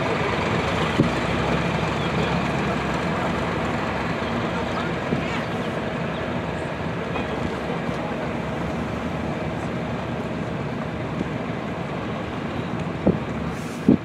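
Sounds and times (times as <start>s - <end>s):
tractor engines running: 0.0s - 14.0s.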